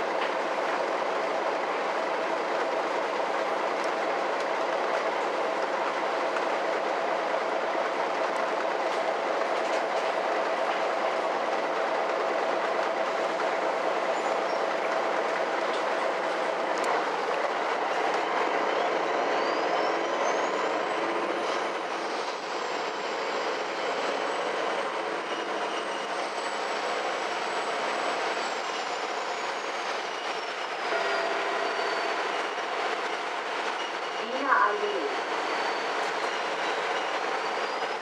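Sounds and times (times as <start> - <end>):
bus engine droning: 0.0 - 37.4.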